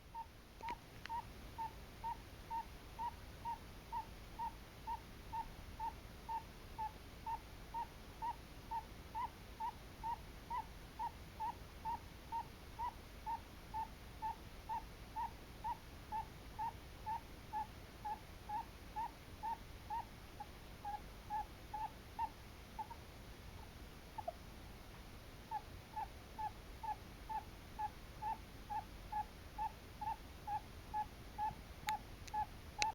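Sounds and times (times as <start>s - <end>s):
hamster squeaky chirps: 0.1s - 20.1s, 20.8s - 23.0s, 23.6s - 24.4s, 25.5s - 32.9s.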